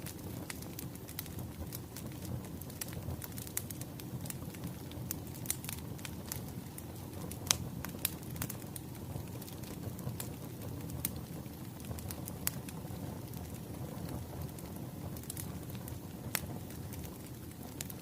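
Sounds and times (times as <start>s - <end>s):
wood fire crackling: 0.0s - 18.0s
sharp pops of burning logs: 0.1s - 18.0s.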